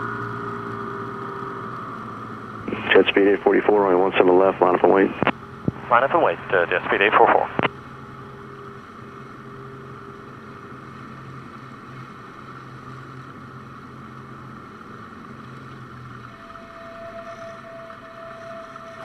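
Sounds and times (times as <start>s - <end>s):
light aircraft engine running low: 0.0s - 19.0s.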